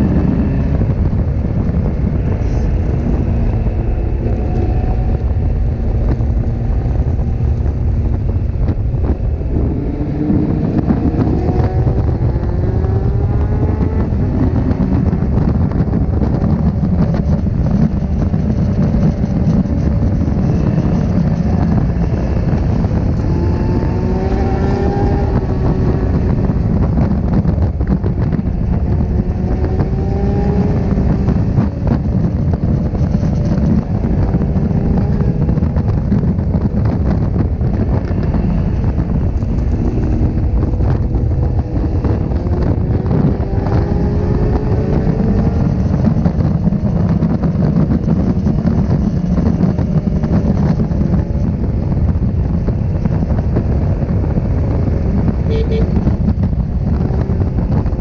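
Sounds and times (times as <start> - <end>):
motorcycle engine accelerating: 0.0 - 58.0
wind buffeting microphone: 0.0 - 58.0.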